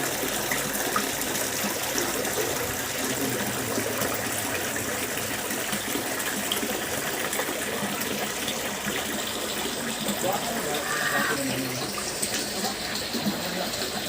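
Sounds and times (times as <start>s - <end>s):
water fountain splashing: 0.0s - 14.0s.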